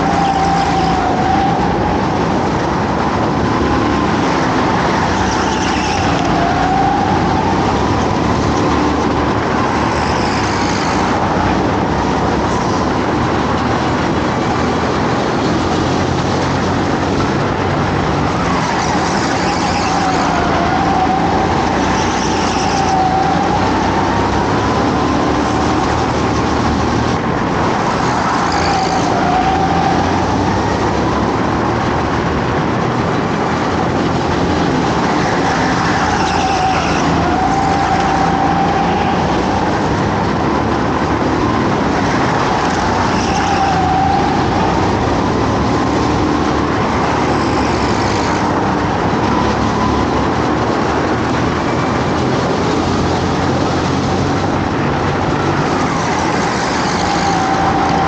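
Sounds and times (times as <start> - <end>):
go-kart engine revving: 0.0 - 58.0
road noise: 0.0 - 58.0.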